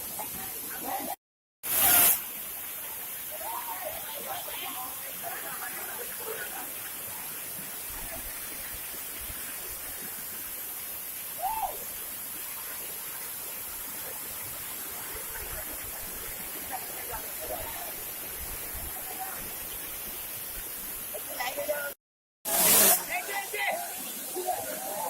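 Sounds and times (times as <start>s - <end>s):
rushing waterfall: 0.0s - 25.0s.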